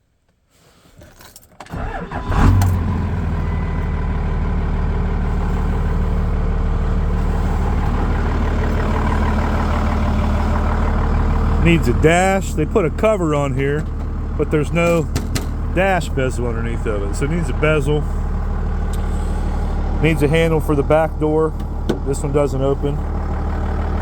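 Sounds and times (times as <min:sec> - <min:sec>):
truck engine starting and idling: 0:01.5 - 0:24.0.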